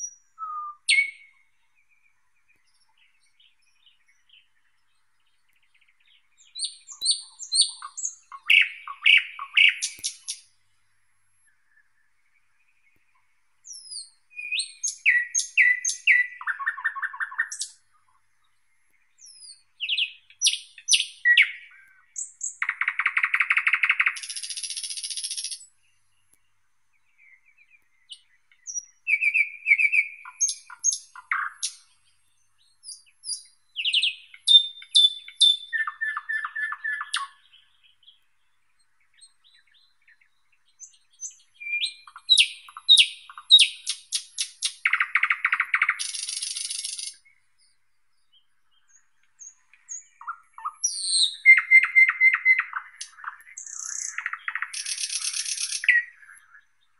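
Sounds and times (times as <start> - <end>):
nightingale singing: 0.0 - 56.9.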